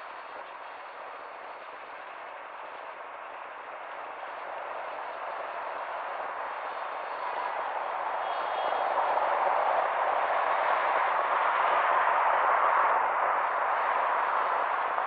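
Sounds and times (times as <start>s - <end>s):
street traffic hiss: 0.0s - 15.0s.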